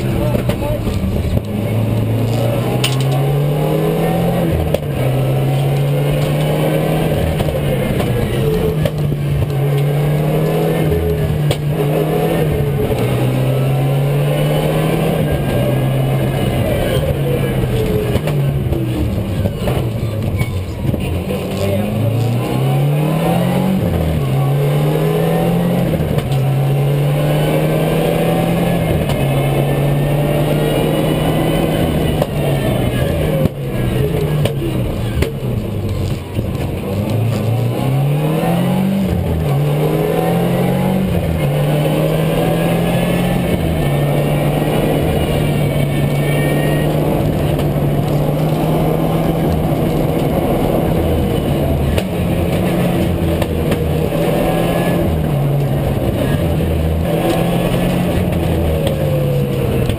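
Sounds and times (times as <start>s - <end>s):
rally car engine revving: 0.0s - 59.9s
road and tyre noise: 0.0s - 59.9s.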